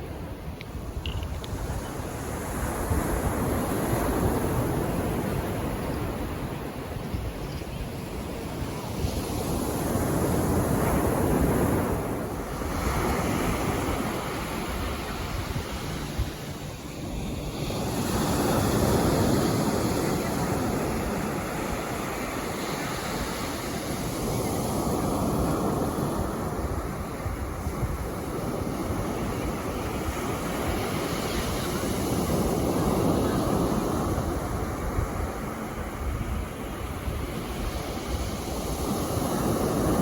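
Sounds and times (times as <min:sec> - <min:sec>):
sea waves washing onto beach: 0:00.0 - 0:40.0.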